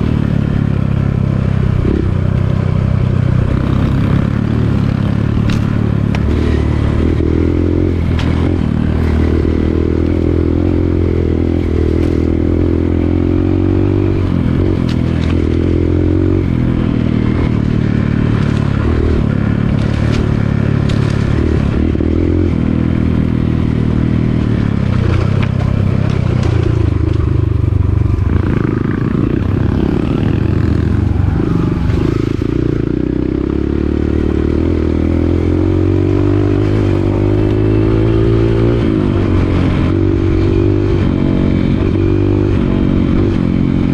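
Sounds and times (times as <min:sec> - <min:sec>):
dirt bike engine: 0:00.0 - 0:43.9.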